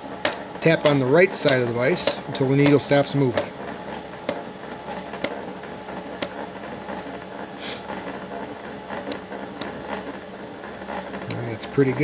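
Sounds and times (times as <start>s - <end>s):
milling machine power feed running: 0.0s - 12.0s.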